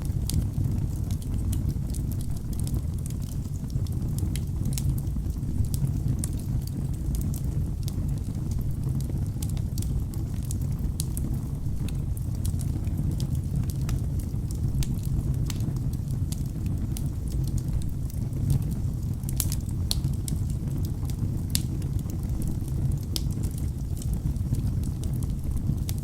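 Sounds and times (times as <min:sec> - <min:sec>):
burning logs crackling and popping: 0:00.0 - 0:26.0
low rumble of flames: 0:00.0 - 0:26.0.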